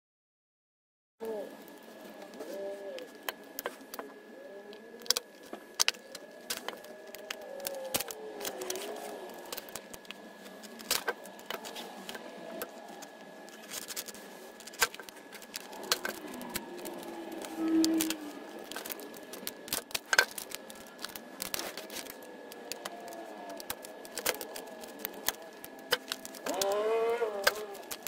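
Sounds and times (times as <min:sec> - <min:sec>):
plastic packaging clicks and crinkles: 0:01.5 - 0:28.0
plastic squeaking: 0:04.7 - 0:28.0.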